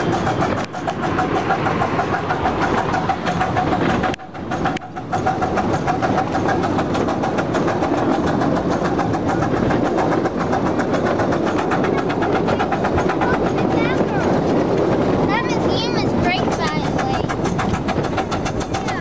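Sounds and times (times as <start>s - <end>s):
miniature train engine running: 0.0s - 19.0s.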